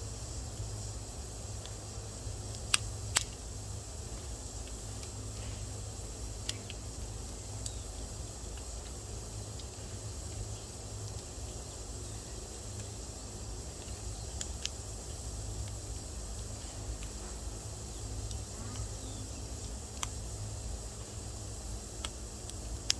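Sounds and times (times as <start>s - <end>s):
fire rumble and hiss: 0.0s - 22.9s
wood fire crackling: 0.2s - 22.9s.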